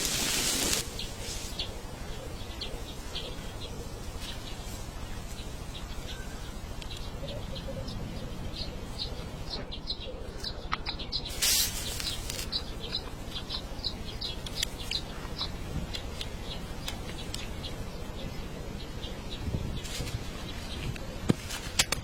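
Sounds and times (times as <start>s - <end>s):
loud hiss or rustle: 0.0s - 7.1s, 11.2s - 21.8s
small birds chirping: 0.0s - 21.4s
low background noise: 0.0s - 22.0s.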